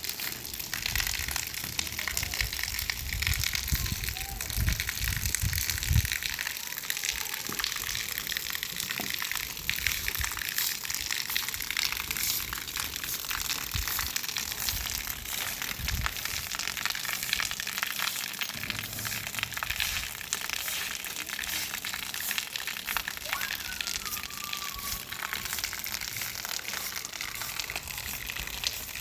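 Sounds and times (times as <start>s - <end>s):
falling splashing water: 0.0s - 29.0s.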